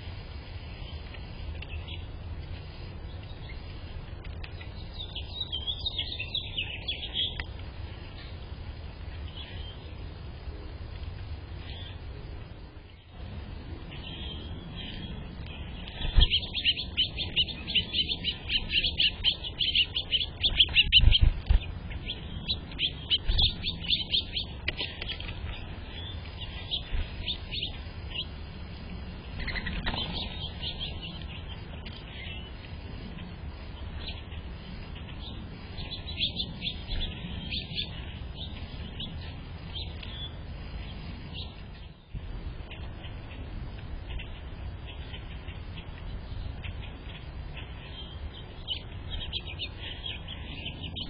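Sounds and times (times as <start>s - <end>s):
small birds chirping: 0.7s - 51.0s.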